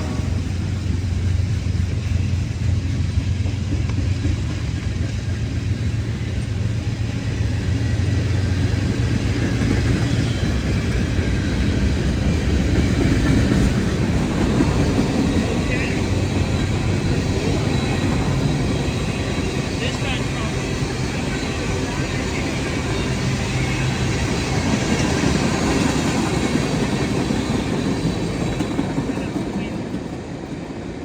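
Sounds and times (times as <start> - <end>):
train passing: 0.0 - 31.0.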